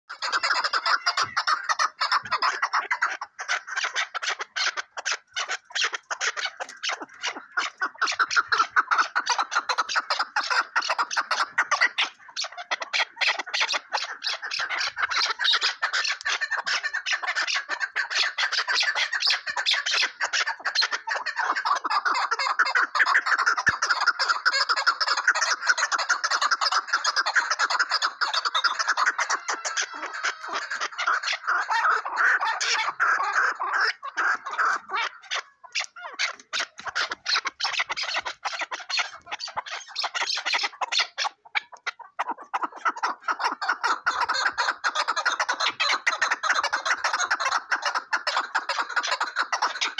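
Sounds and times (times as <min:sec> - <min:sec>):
partridges clucking calls: 0:00.1 - 0:49.9.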